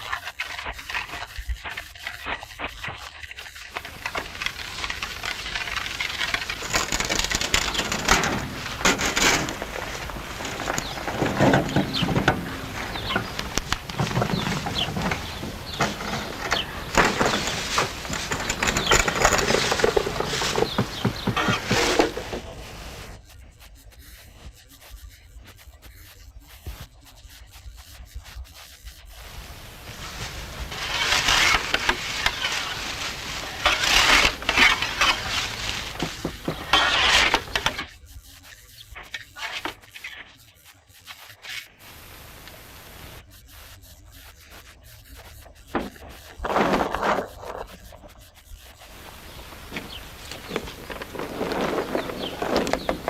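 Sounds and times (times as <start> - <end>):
plastering tool scraping wall: 0.0 - 23.4, 28.7 - 40.4, 43.0 - 53.0.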